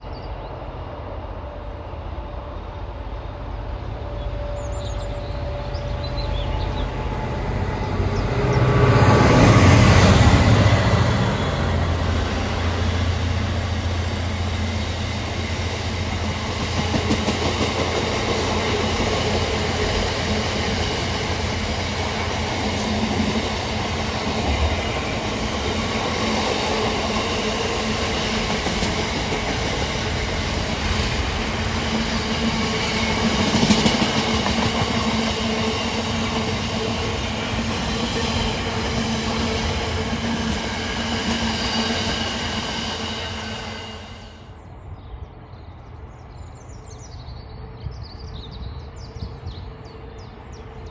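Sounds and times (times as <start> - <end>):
train engine drone: 0.0 - 50.9.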